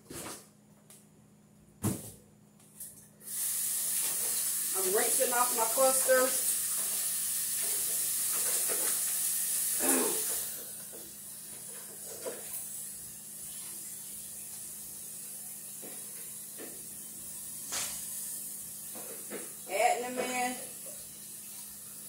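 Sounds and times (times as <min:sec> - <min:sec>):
tap water running: 0:03.2 - 0:22.0.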